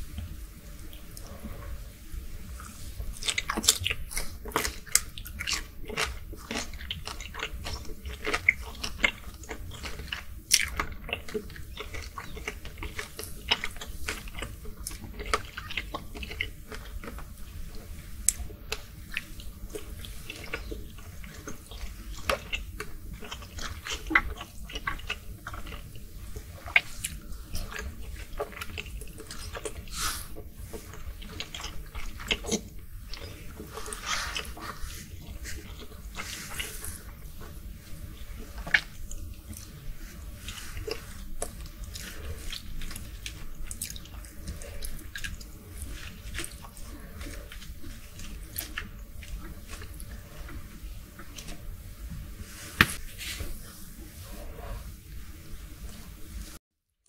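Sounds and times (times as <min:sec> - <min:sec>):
chewing with mouth clicks and smacks: 0:02.4 - 0:53.0.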